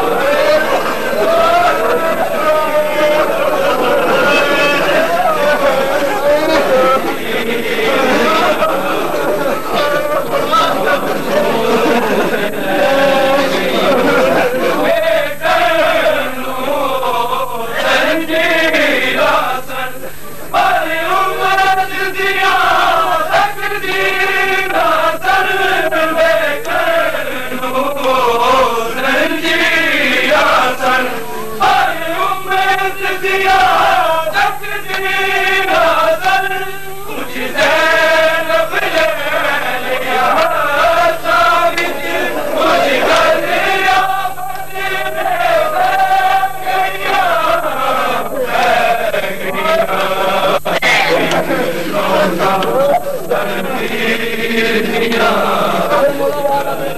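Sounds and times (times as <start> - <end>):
men chanting a lament: 0.0 - 56.9.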